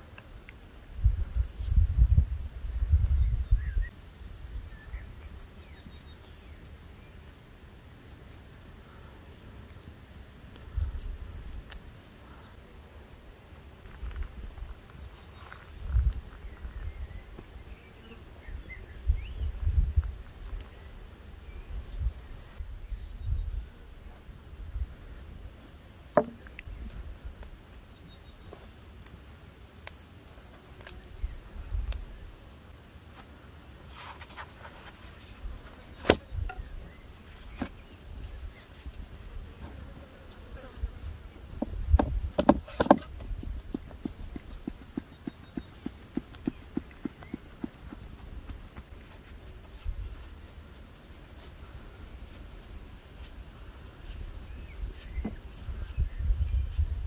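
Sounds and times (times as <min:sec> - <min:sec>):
insect chirping trill: 0:00.0 - 0:57.0.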